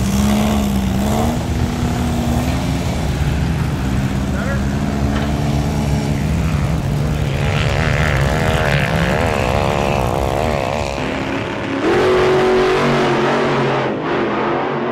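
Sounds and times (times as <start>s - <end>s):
off-road engine revving: 0.0s - 14.9s.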